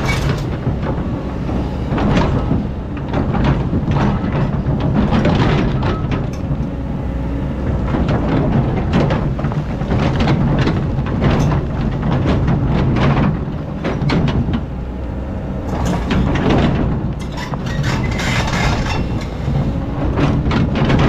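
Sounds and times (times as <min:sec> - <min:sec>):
excavator diesel engine running: 0:00.0 - 0:21.0
machine knocks and scrapes: 0:00.0 - 0:21.0.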